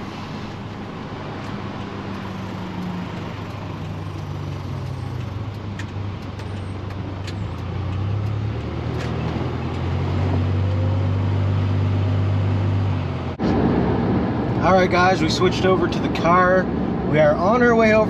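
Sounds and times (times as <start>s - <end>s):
road noise: 0.0s - 18.0s
truck engine drone: 0.0s - 18.0s.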